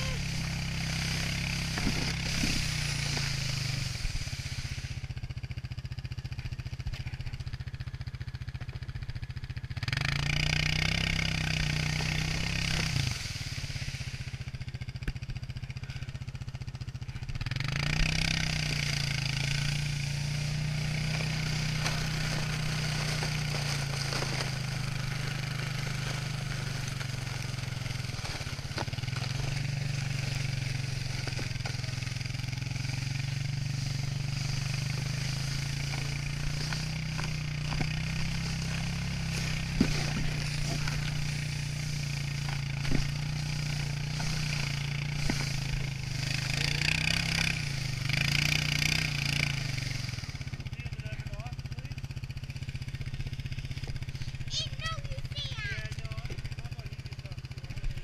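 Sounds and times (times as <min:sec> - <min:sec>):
sled hissing over snow: 0:00.0 - 0:07.5, 0:11.0 - 0:55.9
atv engine running: 0:00.0 - 0:58.0.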